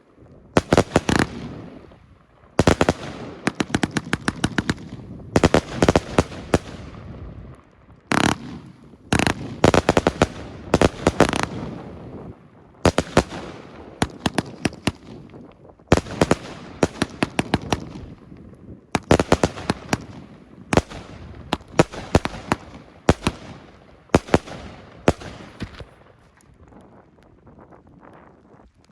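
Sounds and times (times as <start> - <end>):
firework volleys of sharp bangs: 0.6 - 7.2, 8.1 - 18.3, 18.9 - 26.3.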